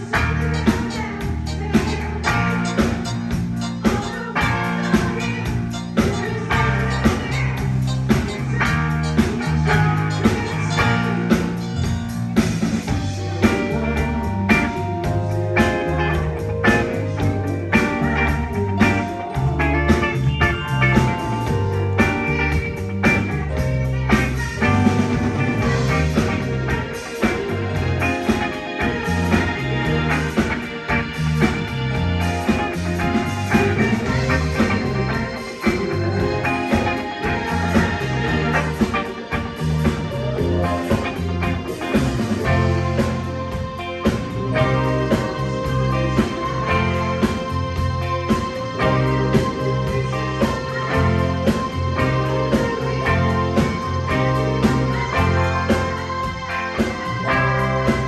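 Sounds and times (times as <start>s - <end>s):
live band playing instrumental: 0.0s - 58.0s.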